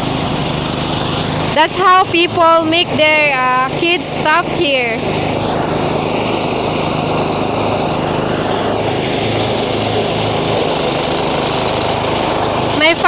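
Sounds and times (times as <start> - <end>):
rice thresher engine droning: 0.0 - 13.0.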